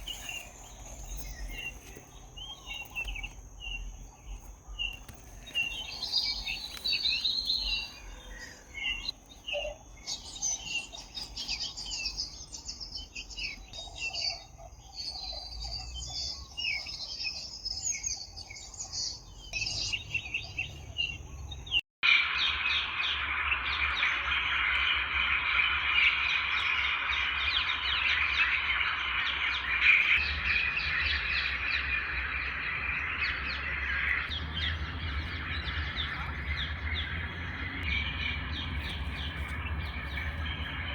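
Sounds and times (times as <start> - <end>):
chorus of chattering birds: 0.0 - 40.9
songbirds chirping: 0.0 - 40.9.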